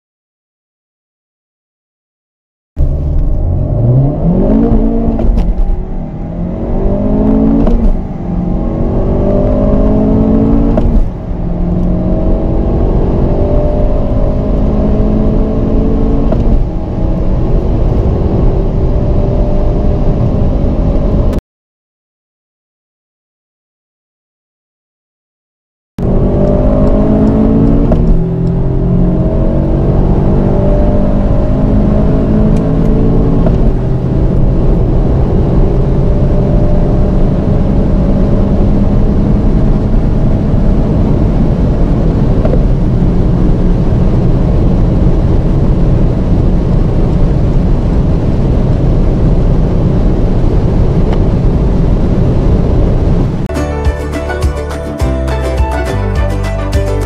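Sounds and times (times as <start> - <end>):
car engine accelerating: 2.8 - 21.4, 26.0 - 57.0.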